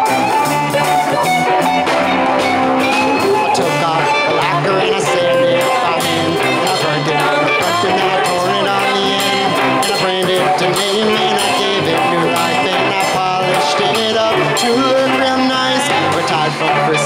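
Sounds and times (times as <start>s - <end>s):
live band playing: 0.0s - 17.0s
saxophone: 0.0s - 17.0s.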